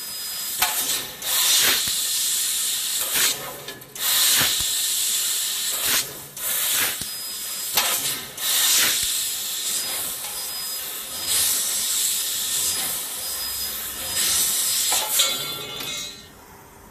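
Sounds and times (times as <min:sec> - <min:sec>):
gas hissing at laser cutter head: 0:00.0 - 0:16.3.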